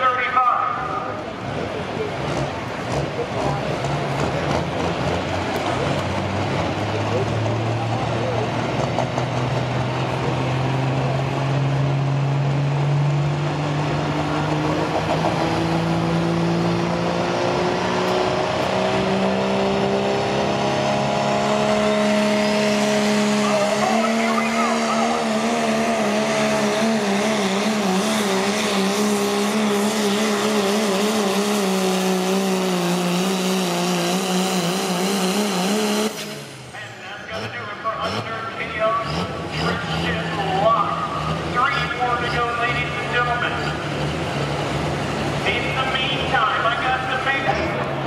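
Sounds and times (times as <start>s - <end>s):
diesel truck engine under load: 0.0s - 48.0s.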